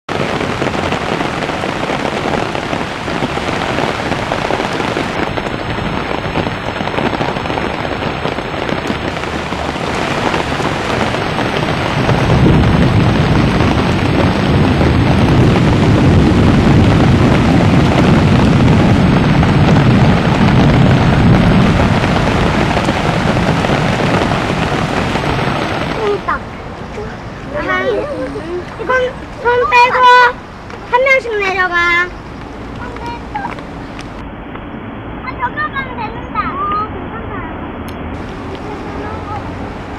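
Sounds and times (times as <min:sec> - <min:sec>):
heavy downpour: 0:00.0 - 0:39.9
rushing floodwater: 0:00.1 - 0:39.9.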